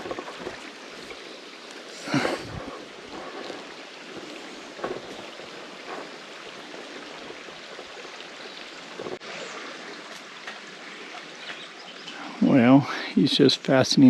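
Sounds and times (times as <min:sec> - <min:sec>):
spring water trickling and splashing: 0:00.0 - 0:14.0.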